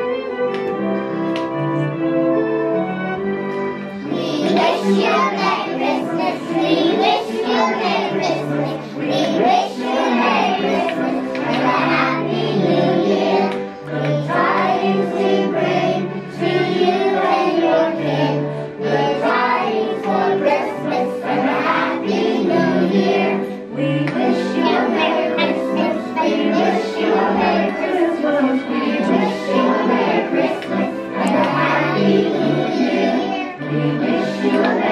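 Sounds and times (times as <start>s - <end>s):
musical backing track: 0.0s - 34.9s
children singing in unison: 4.0s - 34.9s.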